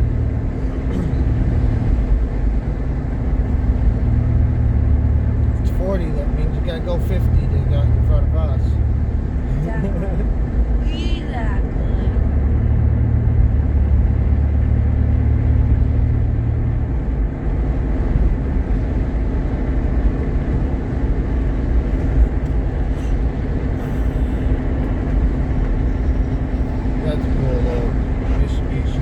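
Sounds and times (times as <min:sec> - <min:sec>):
car engine hum: 0:00.0 - 0:29.0
road noise inside car: 0:00.0 - 0:29.0.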